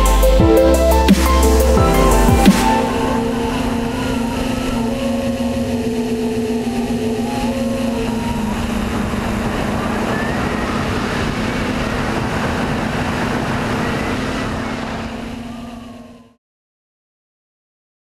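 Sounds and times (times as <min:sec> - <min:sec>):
drone propellers whirring: 0:00.0 - 0:16.3.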